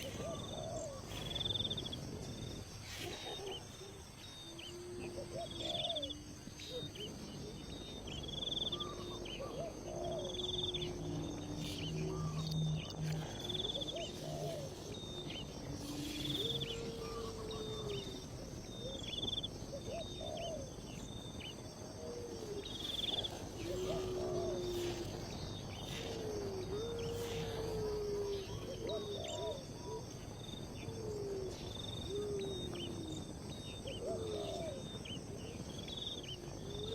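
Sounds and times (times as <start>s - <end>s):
insects droning: 0.0s - 36.9s
wild birds chirping and calling: 0.0s - 36.9s.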